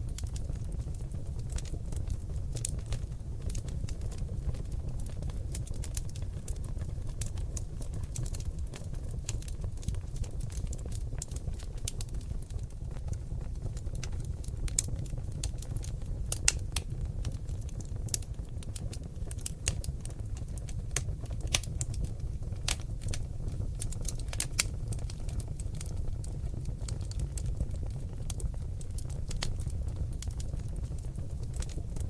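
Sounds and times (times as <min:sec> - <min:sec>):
logs crackling and popping: 0:00.0 - 0:32.0
low rumble of flames: 0:00.0 - 0:32.0.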